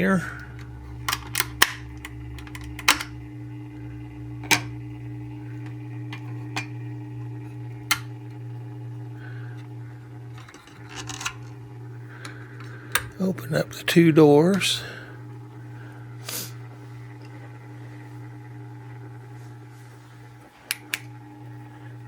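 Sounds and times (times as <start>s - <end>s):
motorized turntable humming: 0.0s - 22.0s.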